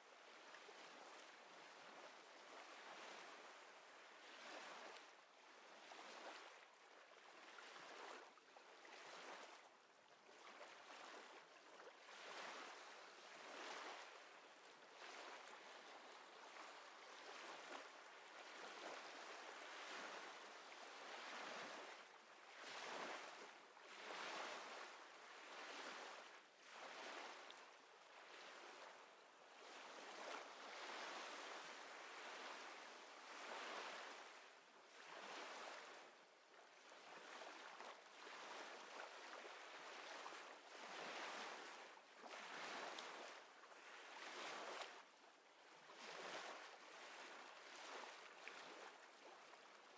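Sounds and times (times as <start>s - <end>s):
small waves washing: 0.1s - 49.9s.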